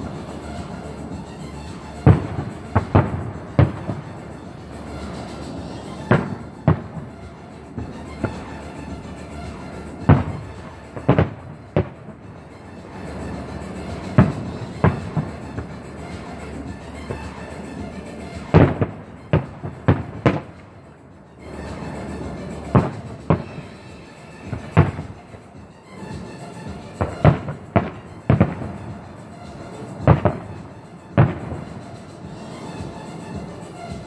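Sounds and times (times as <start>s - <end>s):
firework shells bursting: 0.0s - 34.0s.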